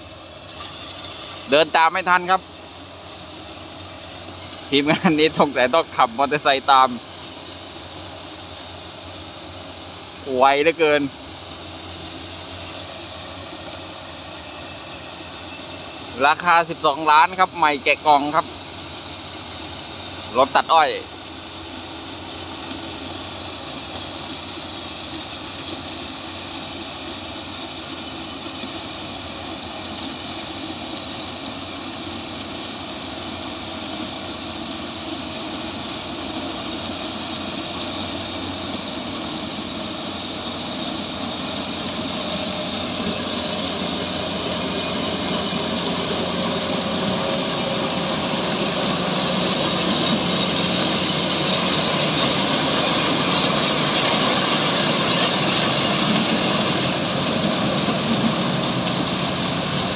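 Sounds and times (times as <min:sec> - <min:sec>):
harvester running: 0:00.0 - 0:59.9
truck engine running: 0:00.0 - 0:59.9.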